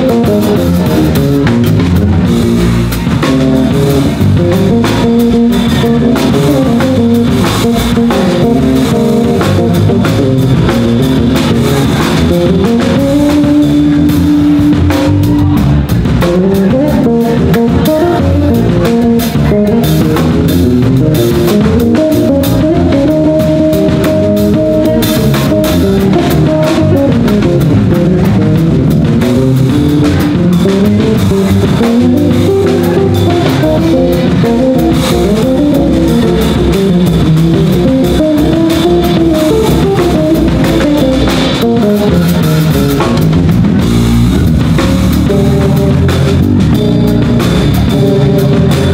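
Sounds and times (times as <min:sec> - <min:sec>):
bass guitar melody: 0:00.0 - 0:48.9
drum kit playing: 0:00.0 - 0:48.9.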